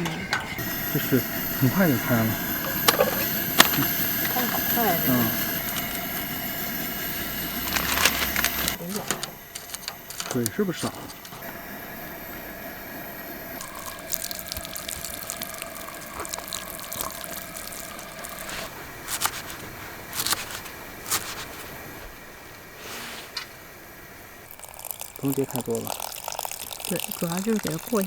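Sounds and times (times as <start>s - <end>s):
gas stove hissing: 0.0s - 28.0s.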